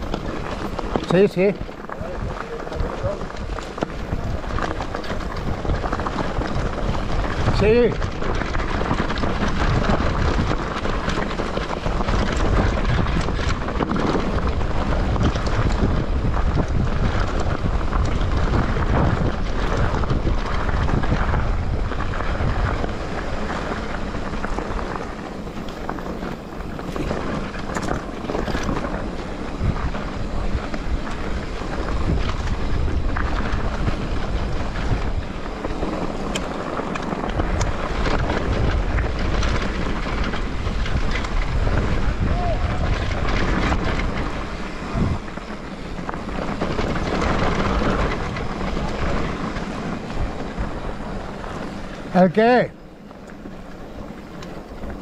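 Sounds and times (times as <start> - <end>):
bike clattering over bumps: 0.0 - 55.0
tyres crunching on loose stones: 0.0 - 55.0
wind rushing over microphone: 0.0 - 55.0.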